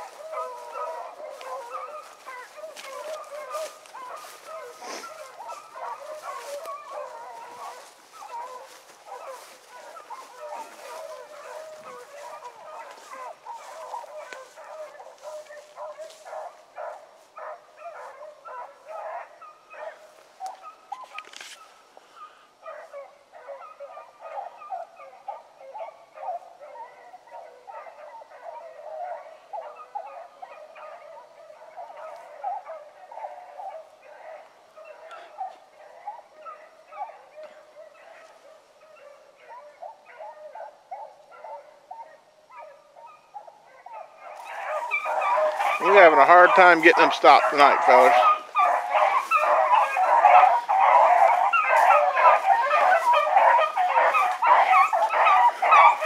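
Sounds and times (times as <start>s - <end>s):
dogs baying and barking: 0.0s - 56.0s.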